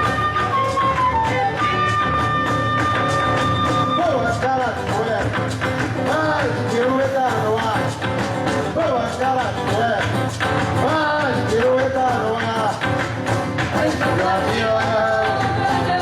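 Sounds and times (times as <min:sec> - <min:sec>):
band playing drum music: 0:00.0 - 0:16.0.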